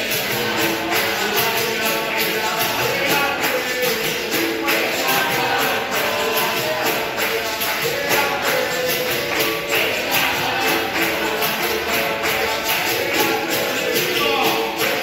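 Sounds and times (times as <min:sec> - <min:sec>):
frame drum beating rhythm: 0:00.0 - 0:15.0
voices singing: 0:00.0 - 0:15.0.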